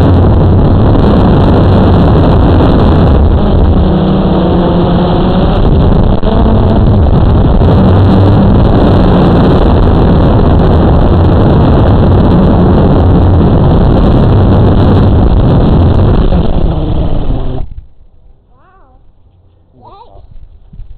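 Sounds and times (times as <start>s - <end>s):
wind buffeting microphone: 0.0s - 18.4s, 20.2s - 20.9s.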